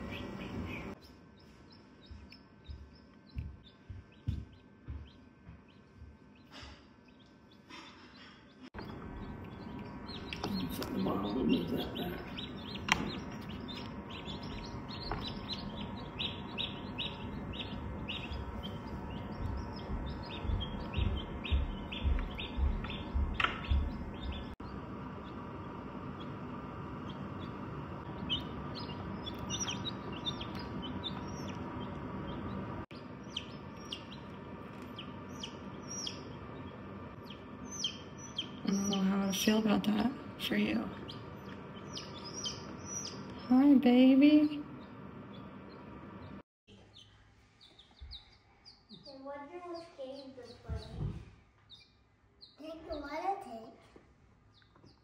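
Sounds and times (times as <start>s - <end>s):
steady low hum: 0.0s - 48.9s
chicks peeping: 0.0s - 53.0s, 54.5s - 55.0s.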